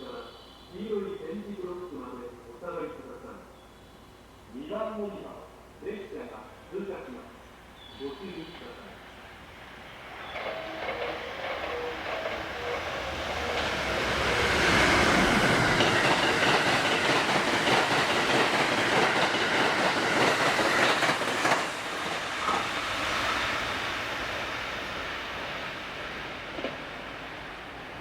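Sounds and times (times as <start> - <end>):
train passing at speed: 4.0 - 28.0.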